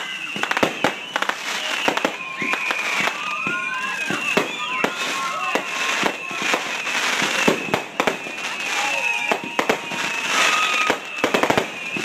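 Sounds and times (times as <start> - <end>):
firework whistling: 0.0 - 12.0.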